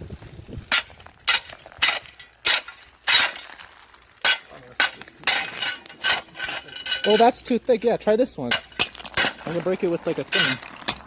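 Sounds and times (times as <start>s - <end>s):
ice cracking and shattering: 0.6s - 7.5s, 8.4s - 11.0s
broomstick striking ice: 0.7s - 11.0s.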